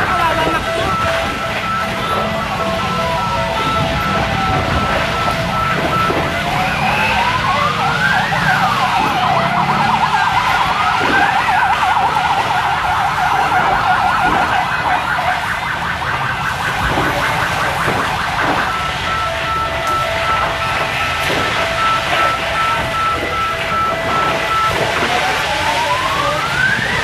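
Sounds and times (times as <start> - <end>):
siren wailing and yelping: 0.0 - 27.0
steady background noise: 0.0 - 27.0.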